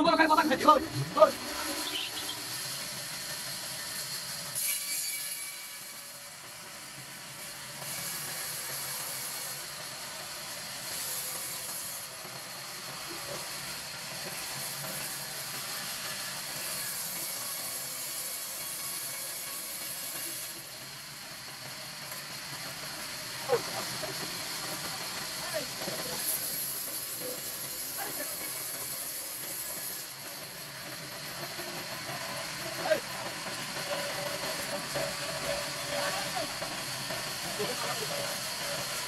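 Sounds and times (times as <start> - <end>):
band saw hissing and whining: 0.0 - 39.0.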